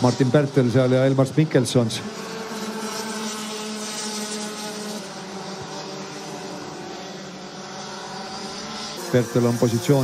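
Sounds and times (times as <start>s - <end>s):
kart engines passing: 0.0s - 10.0s.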